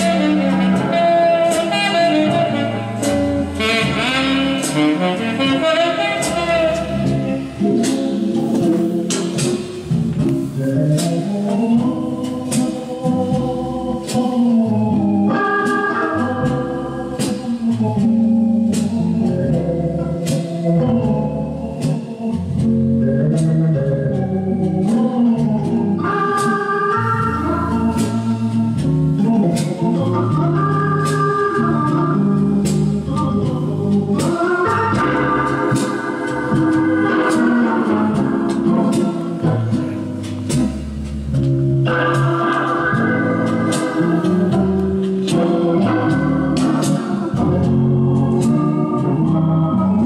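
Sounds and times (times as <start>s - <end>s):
organ music from vinyl record: 0.0s - 50.0s.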